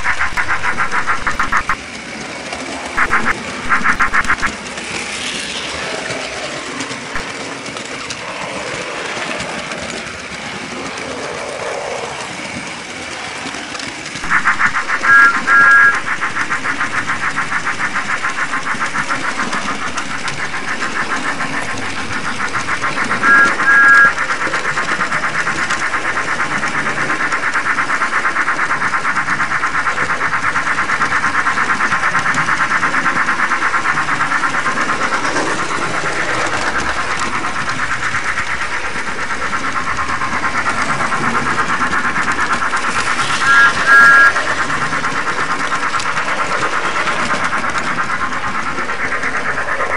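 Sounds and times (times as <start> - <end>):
steam locomotive chuffing: 0.0 - 49.9.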